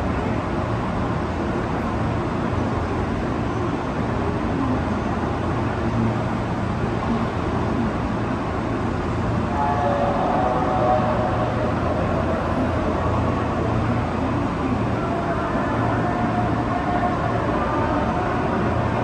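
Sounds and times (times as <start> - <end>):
trains rumbling: 0.0 - 19.0.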